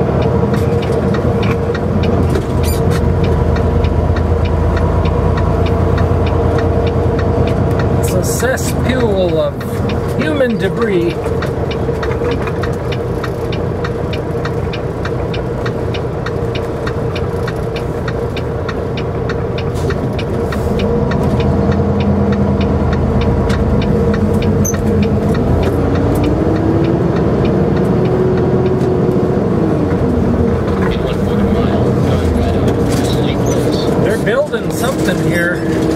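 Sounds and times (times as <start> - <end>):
diesel truck engine: 0.0 - 35.9
road noise: 0.0 - 35.9
steady ticking: 0.0 - 35.9.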